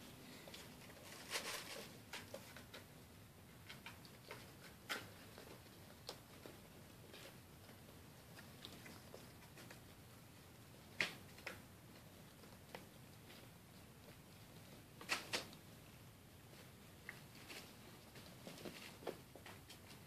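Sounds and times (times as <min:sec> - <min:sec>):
kittens tussling: 0:00.1 - 0:20.0
paws and claws clicking on wicker: 0:00.4 - 0:20.0.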